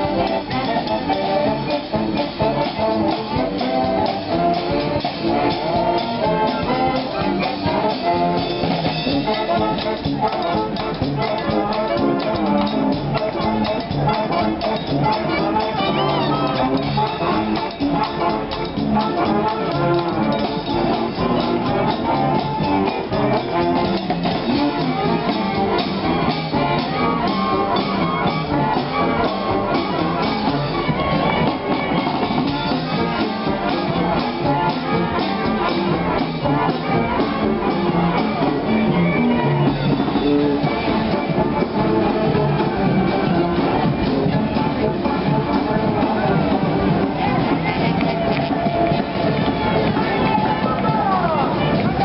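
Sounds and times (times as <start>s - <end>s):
brass band horns: 0.0s - 52.0s
steady drum beat: 0.0s - 52.0s.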